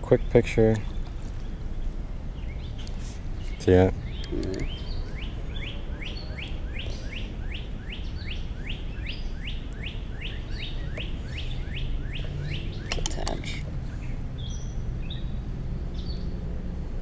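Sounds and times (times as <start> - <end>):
songbird calling: 0.0 - 16.4.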